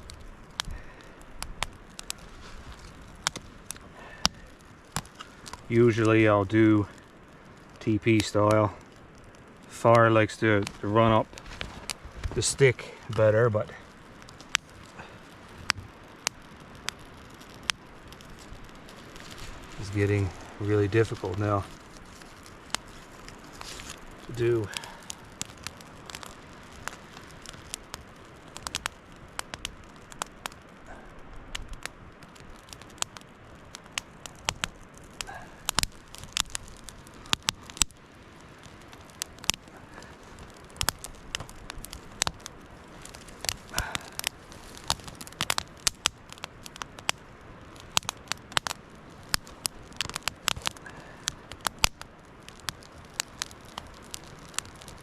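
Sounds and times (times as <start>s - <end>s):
campfire crackling: 0.0s - 55.0s
sharp snaps and pops of fire: 0.0s - 55.0s.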